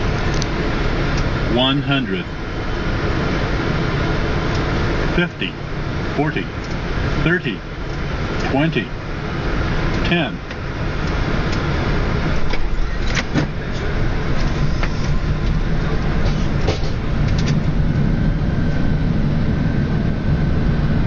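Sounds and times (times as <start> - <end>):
engines and wheels rumbling: 0.0 - 21.0.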